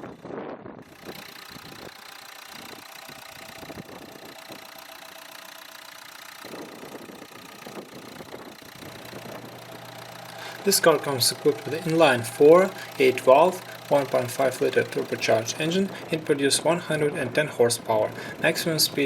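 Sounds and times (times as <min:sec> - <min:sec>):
diesel car engine idling: 0:00.8 - 0:19.0.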